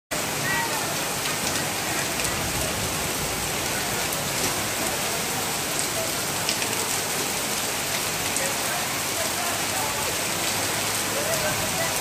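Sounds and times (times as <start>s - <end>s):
heavy rain on street: 0.1s - 12.0s
close raindrops ticking: 0.9s - 12.0s.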